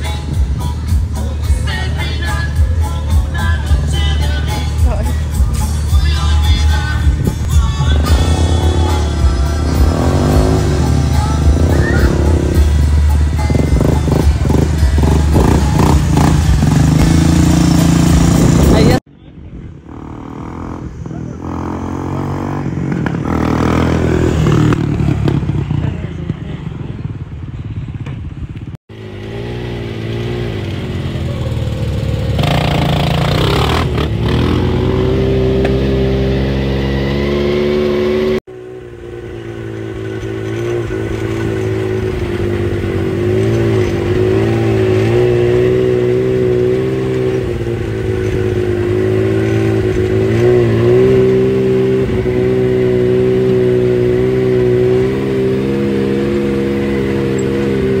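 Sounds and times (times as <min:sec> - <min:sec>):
off-road vehicle engines running: 0:00.0 - 0:58.0.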